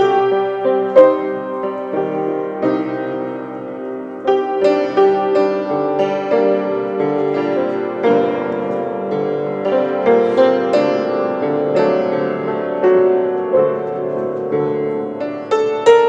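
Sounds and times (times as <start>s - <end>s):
grand piano playing hymn: 0.0s - 16.0s.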